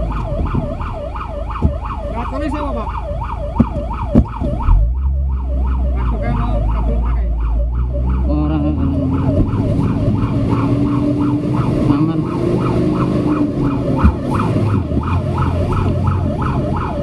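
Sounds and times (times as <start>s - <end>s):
fire truck siren yelp: 0.0s - 17.0s
truck engine: 0.0s - 17.0s.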